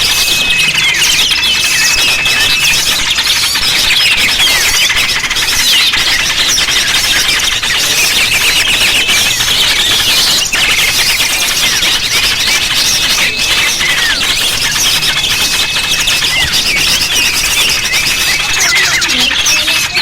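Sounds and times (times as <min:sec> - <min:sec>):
small birds chirping and twittering: 0:00.0 - 0:20.0.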